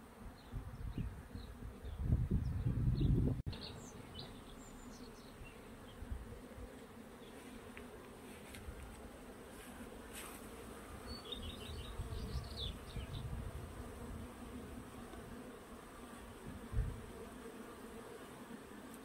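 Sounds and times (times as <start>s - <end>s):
honey bees humming: 0.0s - 19.0s.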